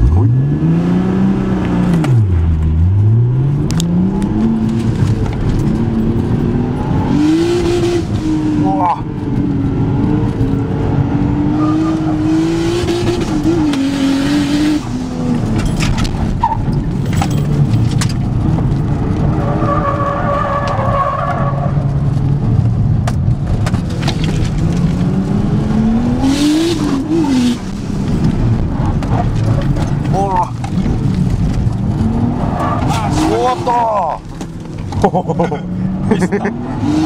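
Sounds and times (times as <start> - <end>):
car engine from inside cabin: 0.0 - 19.4, 21.8 - 37.0.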